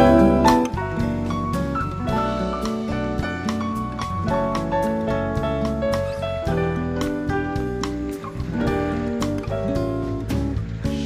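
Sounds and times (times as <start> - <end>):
light jazzy instrumental music: 0.0 - 11.0.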